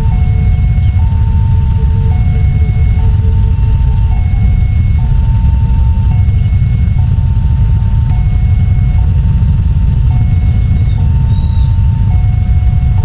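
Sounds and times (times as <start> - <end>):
steady low rumble: 0.0 - 13.0
two-tone level-crossing siren: 0.0 - 13.0.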